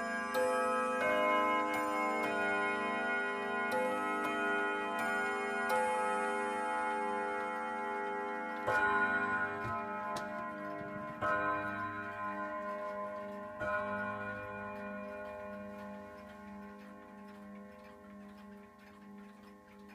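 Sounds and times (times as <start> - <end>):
clock striking deep ringing strokes: 0.0 - 19.9
clock ticking: 0.3 - 19.9.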